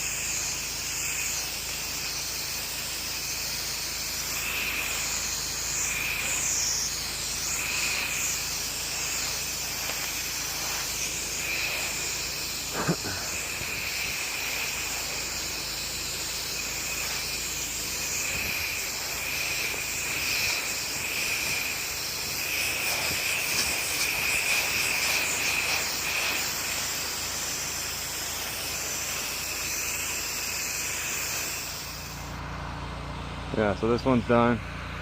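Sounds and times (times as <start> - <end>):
pressure washer spraying: 0.0 - 32.4.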